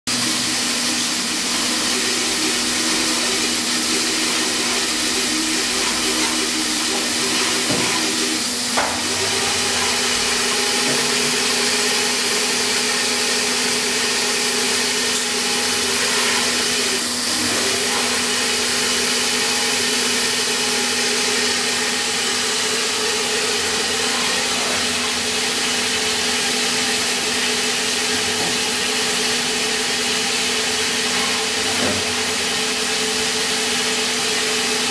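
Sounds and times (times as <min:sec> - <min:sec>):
milling machine humming: 0:00.1 - 0:34.9.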